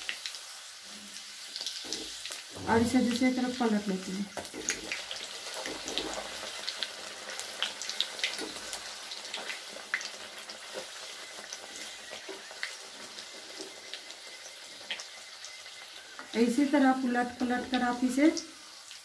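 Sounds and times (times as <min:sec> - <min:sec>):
deep-frying sizzle with crackling pops: 0:00.0 - 0:19.0.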